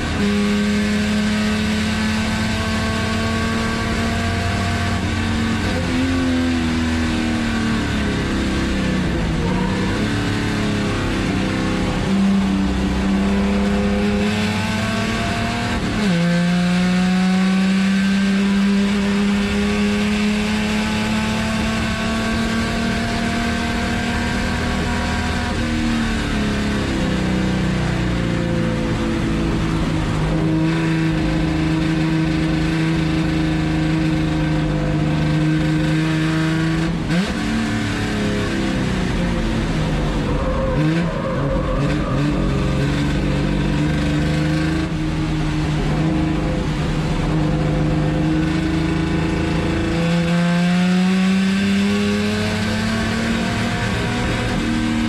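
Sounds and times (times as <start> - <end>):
car engine running hard: 0.0 - 55.0.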